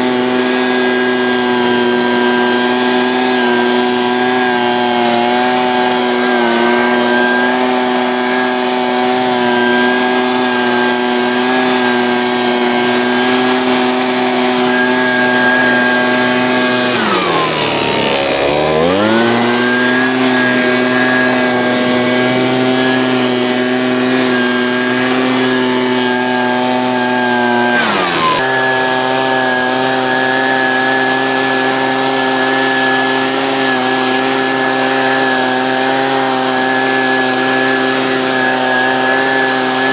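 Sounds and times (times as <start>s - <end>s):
leaf blower engine revving: 0.0s - 39.9s.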